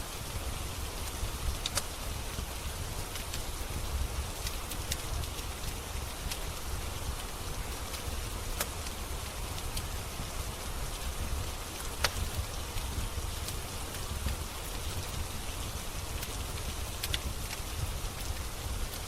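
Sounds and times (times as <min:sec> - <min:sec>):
rain hissing: 0:00.0 - 0:19.0
wood fire crackling: 0:00.0 - 0:19.0.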